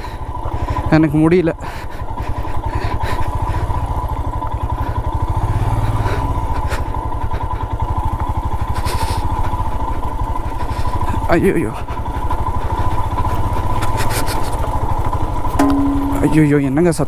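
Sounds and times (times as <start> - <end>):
motorcycle engine chugging: 0.0 - 17.0.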